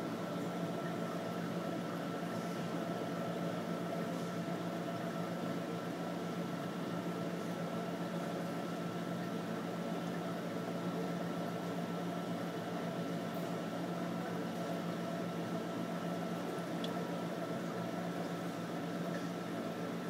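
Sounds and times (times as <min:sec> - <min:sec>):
aquarium pump humming: 0:00.0 - 0:20.0.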